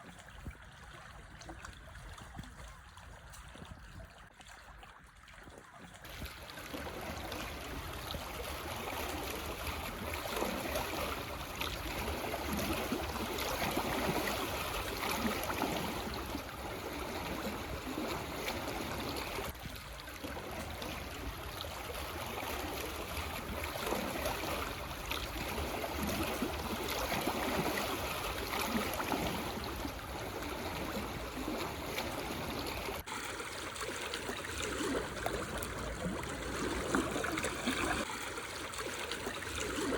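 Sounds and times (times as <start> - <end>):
sea waves lapping over stones: 6.0 - 39.9.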